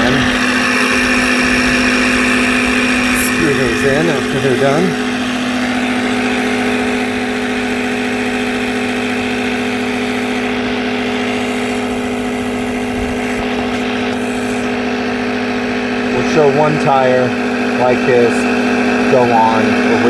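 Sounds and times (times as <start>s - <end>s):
tire inflator humming: 0.0s - 20.0s.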